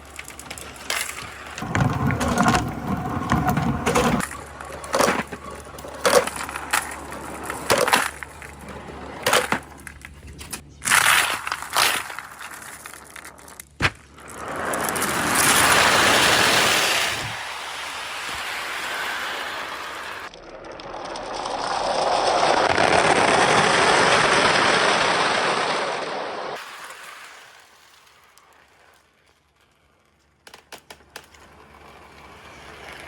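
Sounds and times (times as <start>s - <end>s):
marbles rolling in a gutter track: 0.0s - 25.9s, 26.6s - 33.0s.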